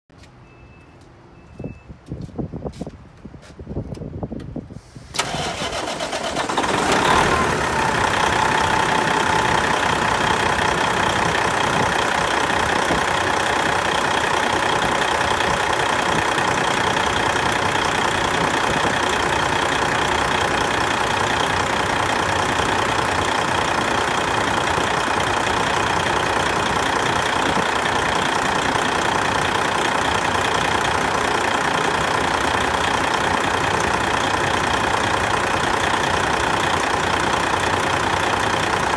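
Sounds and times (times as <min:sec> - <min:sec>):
diesel engine starting and idling: 0:04.6 - 0:38.9.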